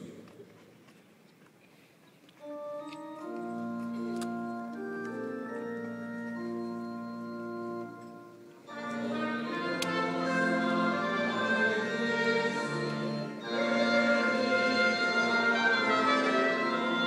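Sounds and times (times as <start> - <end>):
organ playing held chords: 2.4 - 17.0.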